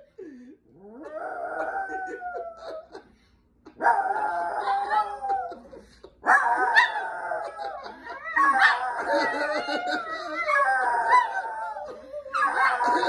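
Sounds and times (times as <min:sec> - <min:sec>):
dogs howling: 0:00.8 - 0:03.0, 0:03.8 - 0:13.0.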